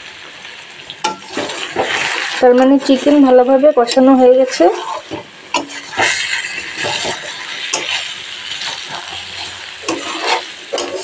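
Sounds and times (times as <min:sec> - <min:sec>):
food sizzling: 0:00.0 - 0:11.0
spatula scraping metal pan: 0:01.1 - 0:11.0.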